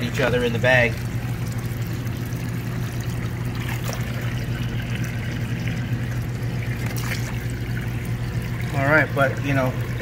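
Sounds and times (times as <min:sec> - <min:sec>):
steady low hum: 0:00.0 - 0:10.0
water pouring from hose into tub: 0:00.0 - 0:10.0.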